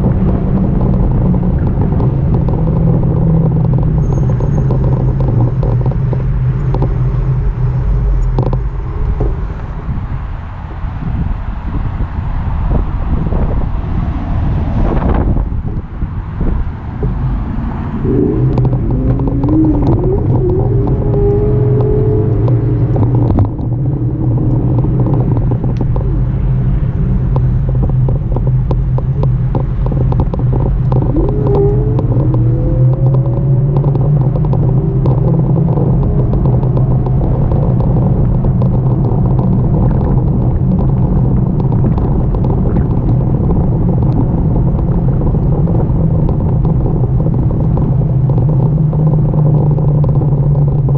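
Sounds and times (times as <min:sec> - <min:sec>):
wind and road noise: 0:00.0 - 0:50.9.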